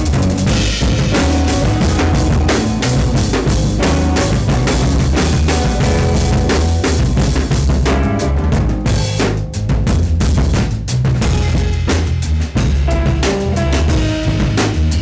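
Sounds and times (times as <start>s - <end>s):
electric guitar: 0.0s - 9.9s, 11.2s - 15.0s
drums playing busily: 0.0s - 15.0s
electric bass: 0.0s - 15.0s.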